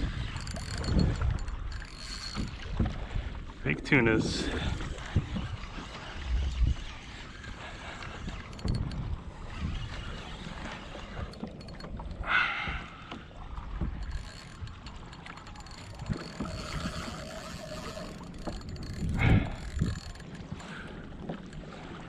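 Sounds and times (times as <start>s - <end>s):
fishing reel whirring and clicking: 0.0s - 3.4s, 4.5s - 22.0s.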